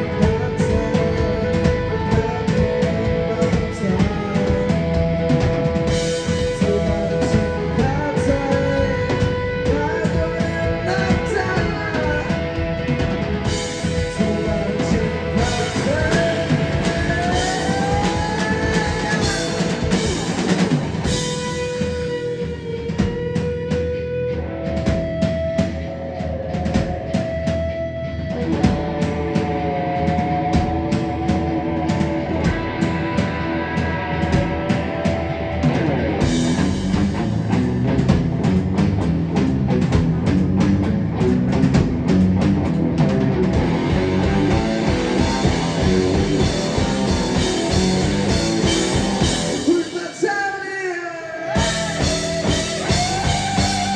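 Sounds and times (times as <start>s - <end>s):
rock band playing: 0.0s - 53.9s.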